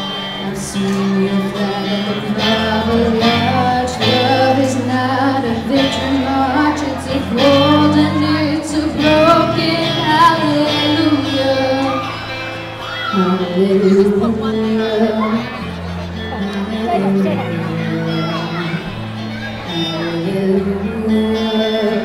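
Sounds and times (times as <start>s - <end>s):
live band playing slow song: 0.0s - 22.0s
person singing: 0.0s - 22.0s.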